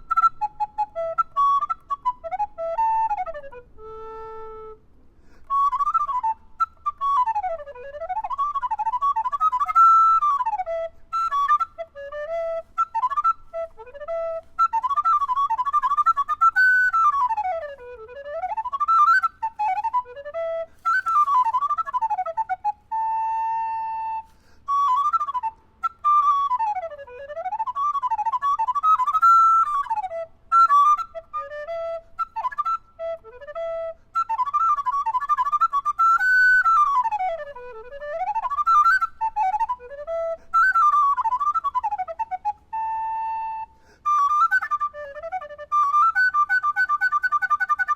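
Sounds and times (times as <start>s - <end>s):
solo recorder playing fast runs: 0.0s - 4.8s, 5.4s - 47.9s.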